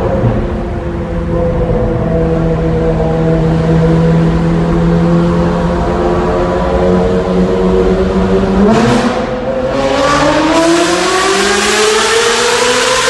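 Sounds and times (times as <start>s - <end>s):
car engine accelerating in a tunnel: 0.0s - 13.0s.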